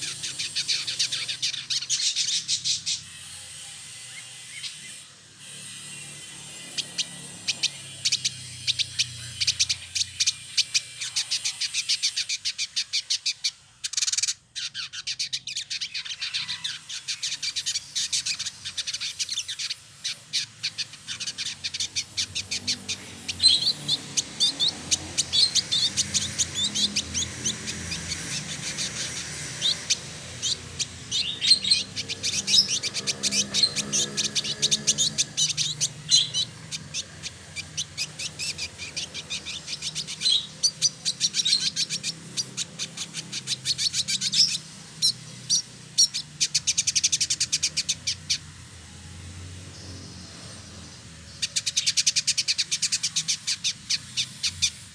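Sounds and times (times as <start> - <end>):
bird chirping and trilling: 0.0 - 54.9.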